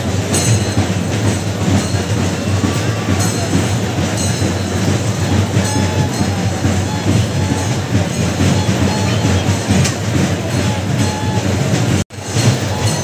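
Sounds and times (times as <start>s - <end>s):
fast temple drumming: 0.0s - 13.0s
huge crowd din: 0.0s - 13.0s.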